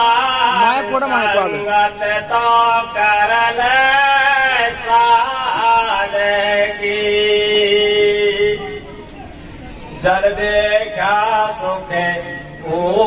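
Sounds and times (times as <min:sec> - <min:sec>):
man singing devotional song: 0:00.0 - 0:08.8, 0:10.0 - 0:13.0.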